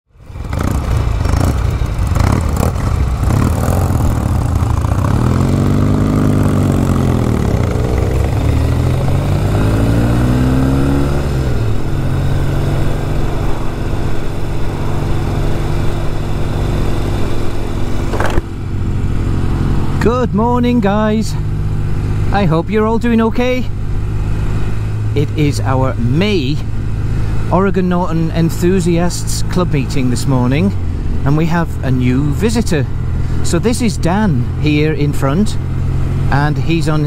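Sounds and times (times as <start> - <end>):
motorcycle engine revving and idling: 0.2 - 37.0.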